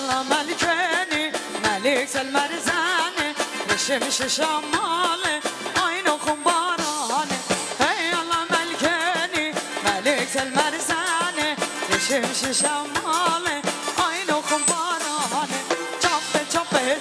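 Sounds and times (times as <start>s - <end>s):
fast steady drum beat: 0.0s - 17.0s
ornamented folk melody: 0.0s - 17.0s.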